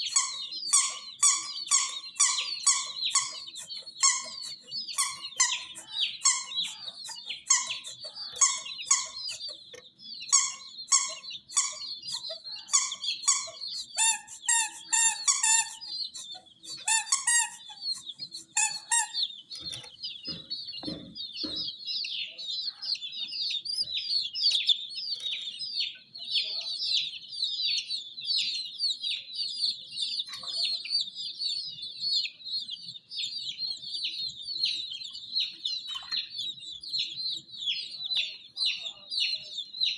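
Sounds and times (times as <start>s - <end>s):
chicks peeping: 0.0s - 39.9s
loud regular bird call: 0.0s - 39.9s.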